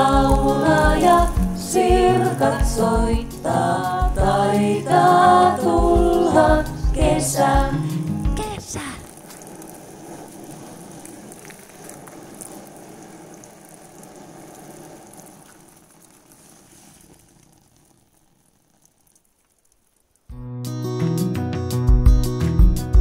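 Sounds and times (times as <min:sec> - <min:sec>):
water pattering on umbrella: 0:00.0 - 0:04.2, 0:05.8 - 0:20.4.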